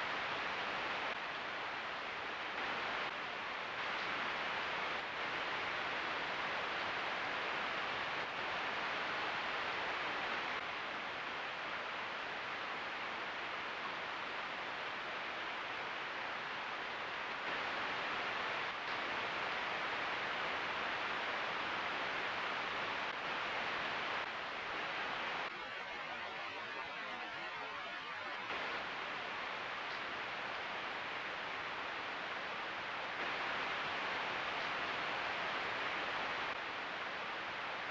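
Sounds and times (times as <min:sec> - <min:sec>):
steady hiss: 0:00.0 - 0:27.5, 0:28.5 - 0:37.9.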